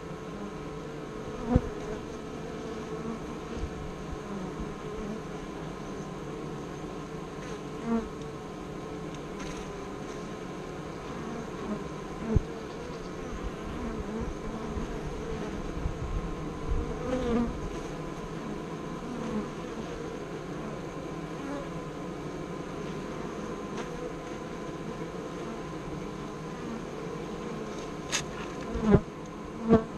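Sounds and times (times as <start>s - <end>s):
honeybees buzzing: 0.0s - 29.9s.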